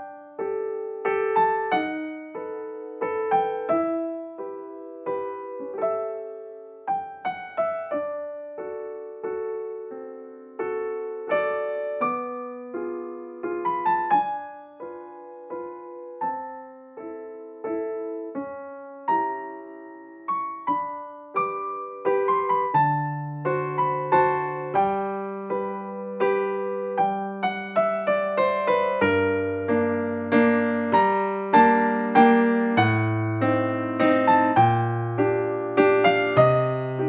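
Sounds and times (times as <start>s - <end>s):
gentle piano melody: 0.0s - 37.0s.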